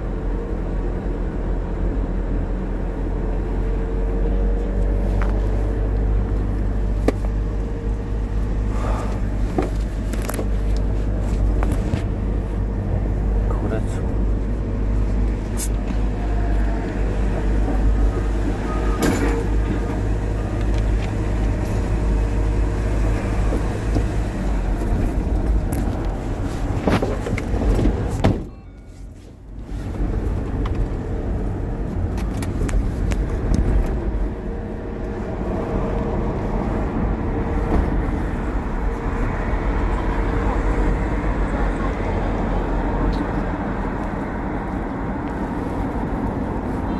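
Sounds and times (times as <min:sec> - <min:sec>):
vehicle engine and road rumble: 0:00.0 - 0:46.9.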